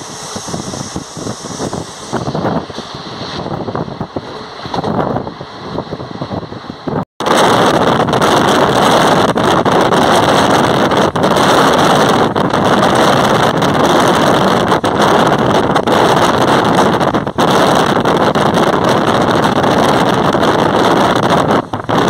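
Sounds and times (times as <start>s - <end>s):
train rolling noise: 0.0s - 22.0s
wind buffeting microphone: 0.0s - 22.0s.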